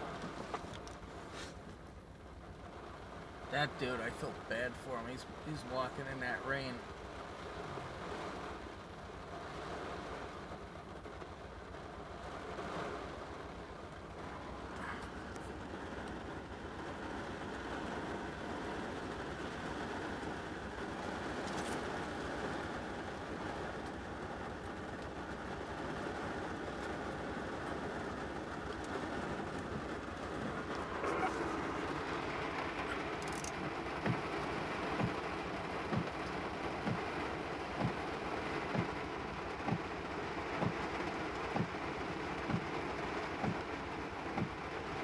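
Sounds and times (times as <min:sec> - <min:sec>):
rain on a car: 0:00.0 - 0:45.0.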